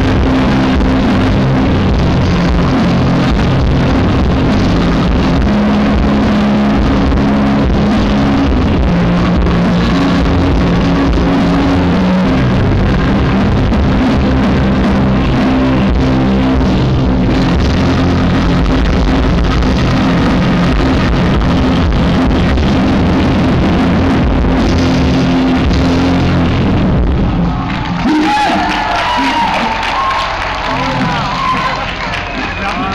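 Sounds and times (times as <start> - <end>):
live rock band music: 0.0 - 27.4.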